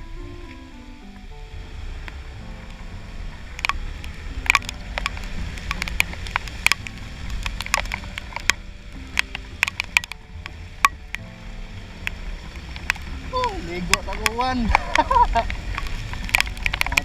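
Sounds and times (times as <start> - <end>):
raindrops ticking on camera: 0.0 - 17.0
scooter engine rumble: 0.0 - 17.0
wind: 0.0 - 17.0.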